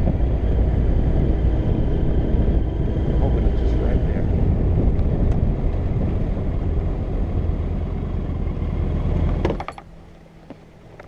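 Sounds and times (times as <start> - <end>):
wind rush on microphone: 0.0 - 9.6
low hum: 0.0 - 11.0
motorcycle engine: 0.0 - 11.0.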